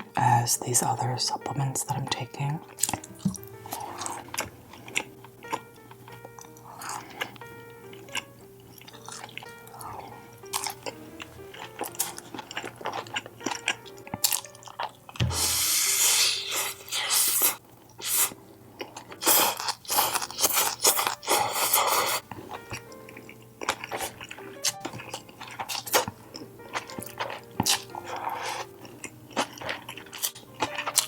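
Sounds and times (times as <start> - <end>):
background music: 0.0 - 31.0
chewing and crunching food: 2.0 - 15.2, 16.0 - 31.0.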